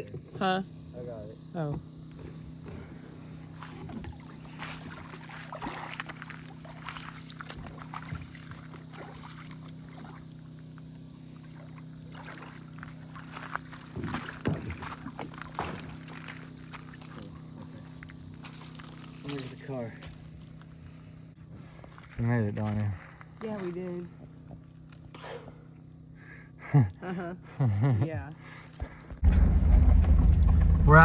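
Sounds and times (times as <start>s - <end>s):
steady low hum: 0.0s - 31.0s
water splashing and sloshing: 1.7s - 26.0s, 28.4s - 30.7s.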